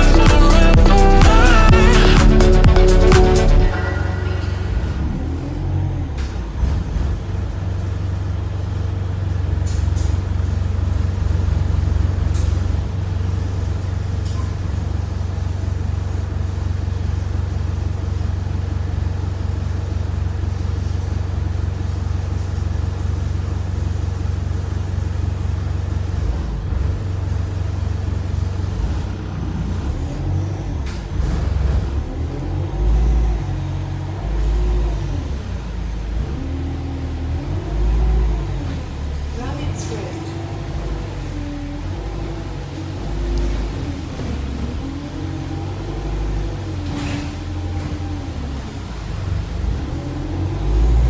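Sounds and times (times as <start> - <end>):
bus engine idling: 0.0 - 51.0
bus pulling away: 0.0 - 51.0.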